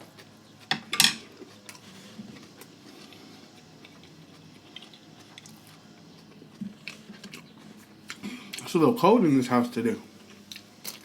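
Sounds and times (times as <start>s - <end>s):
soft chewing: 0.0s - 8.8s, 10.1s - 11.0s.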